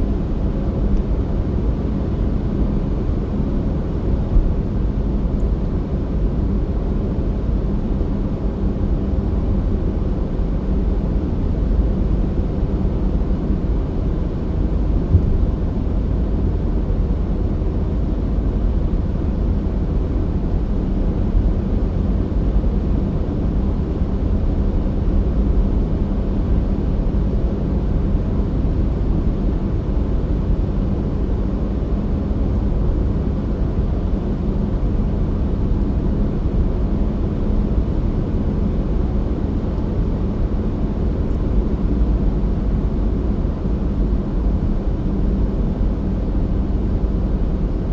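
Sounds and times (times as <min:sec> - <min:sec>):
faint steady hum: 0:00.0 - 0:47.9
road and engine rumble: 0:00.0 - 0:47.9.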